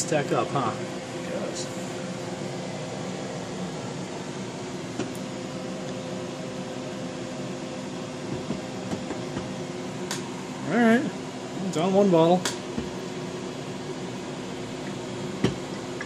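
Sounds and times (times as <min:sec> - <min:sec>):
chiller humming: 0:00.0 - 0:16.0.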